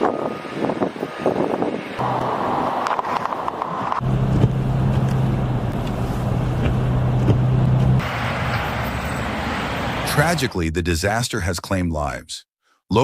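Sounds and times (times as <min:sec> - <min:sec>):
vehicle engine humming: 0:00.0 - 0:10.4.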